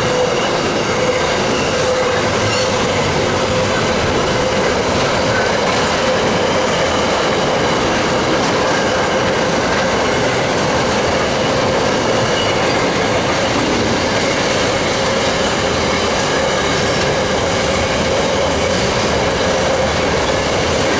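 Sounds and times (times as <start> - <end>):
freight train wheels on rails: 0.0 - 20.9.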